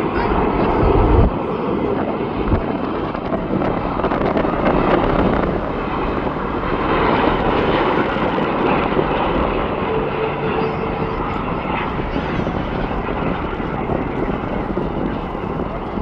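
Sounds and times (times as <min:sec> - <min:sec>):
jet engine noise: 0:00.0 - 0:16.0.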